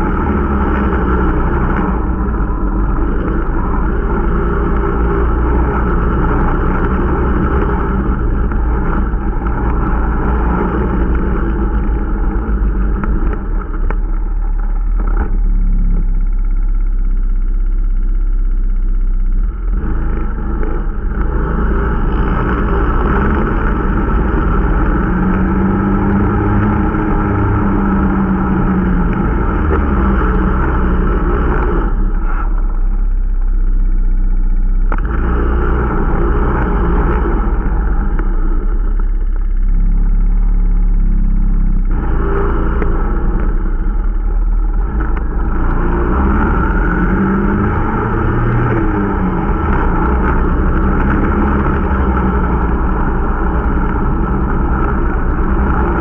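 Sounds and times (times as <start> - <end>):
snowmobile engine revving: 0.0 - 13.8, 19.7 - 32.6, 34.9 - 39.0, 39.8 - 56.0.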